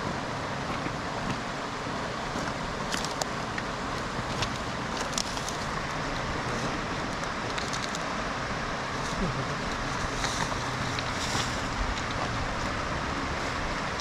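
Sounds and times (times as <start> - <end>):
campfire crackling: 0.5 - 14.0.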